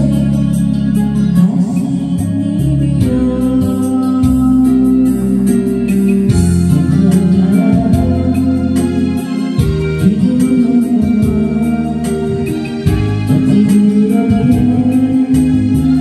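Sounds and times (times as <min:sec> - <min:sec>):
karaoke backing track with organ: 0:00.0 - 0:16.0.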